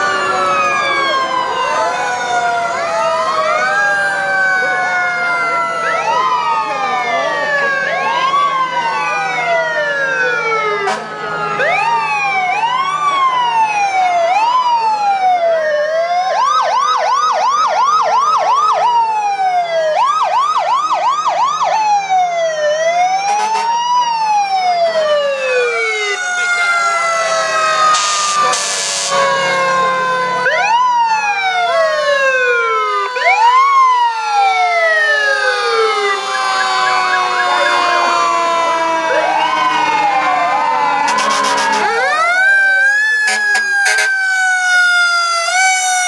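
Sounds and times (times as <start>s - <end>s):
siren yelp: 0.0s - 46.0s
sirens wailing: 0.0s - 46.0s.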